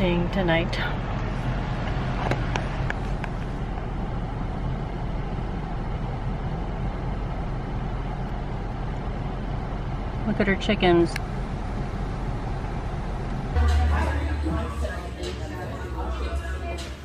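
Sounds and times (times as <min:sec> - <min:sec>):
car cabin road and engine noise: 0:00.0 - 0:17.0.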